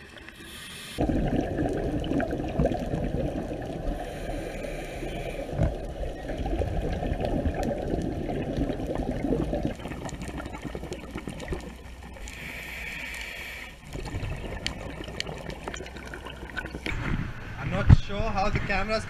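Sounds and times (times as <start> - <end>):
underwater air bubbling: 0.0 - 17.6.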